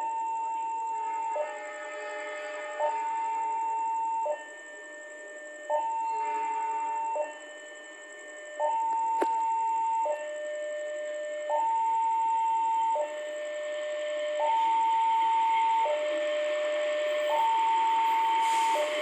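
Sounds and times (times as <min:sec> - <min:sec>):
two-tone warning alarm: 0:00.0 - 0:19.0.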